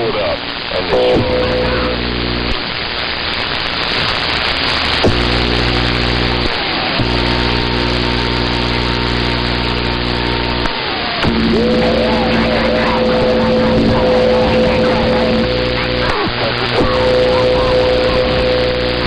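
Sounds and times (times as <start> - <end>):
low buzzing hum: 0.0 - 2.6, 5.0 - 19.0
radio static hiss: 0.0 - 19.0.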